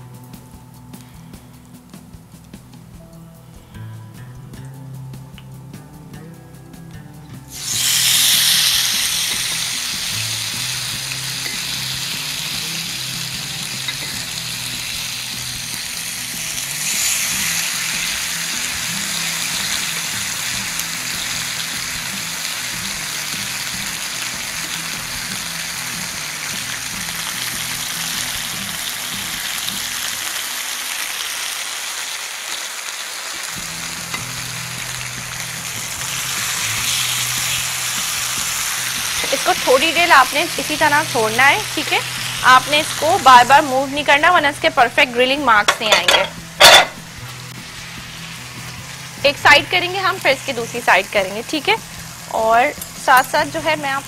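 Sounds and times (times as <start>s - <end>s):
chicken sizzling in hot oil: 7.4s - 54.0s.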